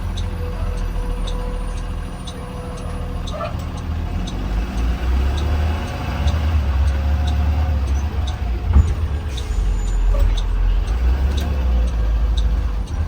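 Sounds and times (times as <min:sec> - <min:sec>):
bus engine rumble: 0:00.0 - 0:13.0
light ticking: 0:00.0 - 0:13.0.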